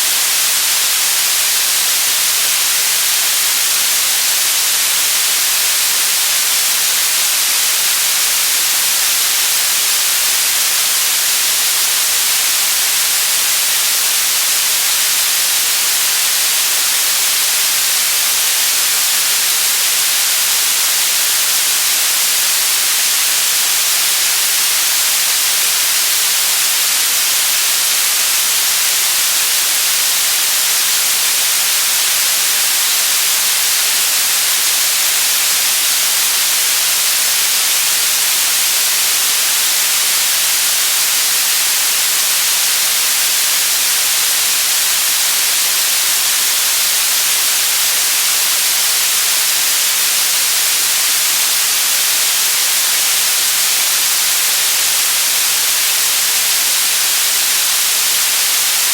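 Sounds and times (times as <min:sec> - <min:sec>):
white noise static: 0:00.0 - 0:58.9.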